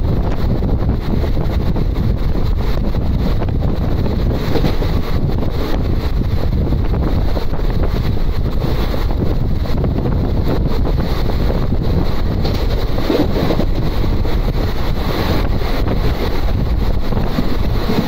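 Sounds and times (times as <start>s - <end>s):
express train rumble: 0.0s - 18.0s
wind buffeting microphone: 0.0s - 18.0s.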